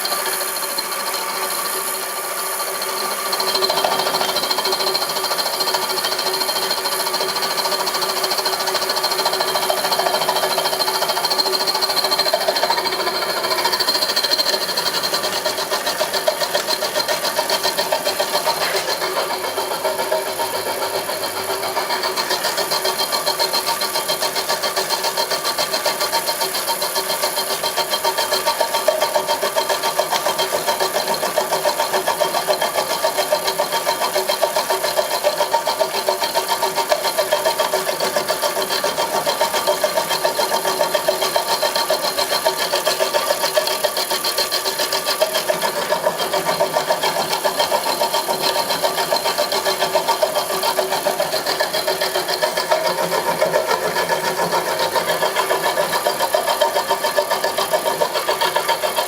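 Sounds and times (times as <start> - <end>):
milling machine rattling and whining: 0.0 - 59.0.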